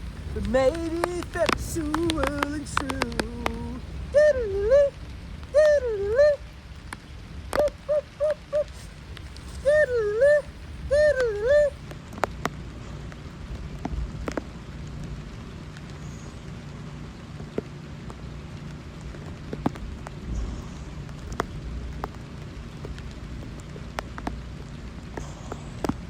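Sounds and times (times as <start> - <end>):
low rumble: 0.0 - 25.2
raindrops striking close by: 0.0 - 26.0
steady rain hiss: 0.0 - 26.0.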